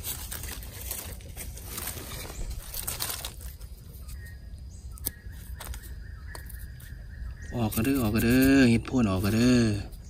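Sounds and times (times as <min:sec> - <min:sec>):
dry leaves crunching: 0:00.0 - 0:09.8.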